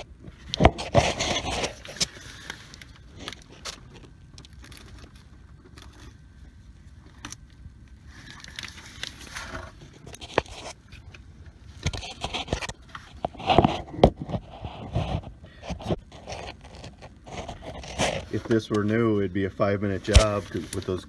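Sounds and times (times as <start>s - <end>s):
hand rustling in engine bay: 0.0s - 7.0s, 7.6s - 21.0s.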